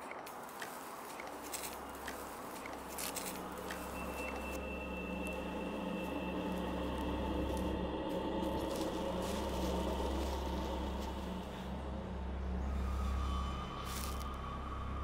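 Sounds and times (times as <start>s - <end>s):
footsteps in dry grass: 0.0s - 11.8s, 13.8s - 14.4s.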